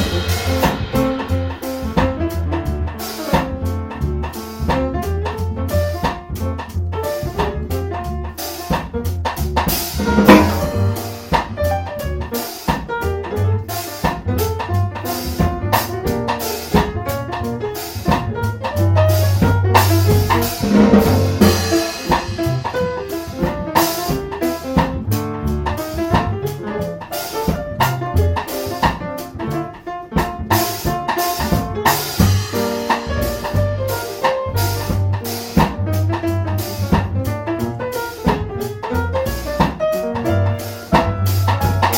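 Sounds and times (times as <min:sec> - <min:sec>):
drum hits: 0:00.0 - 0:41.9
piano notes: 0:00.0 - 0:41.9
walking bass line: 0:00.0 - 0:41.9.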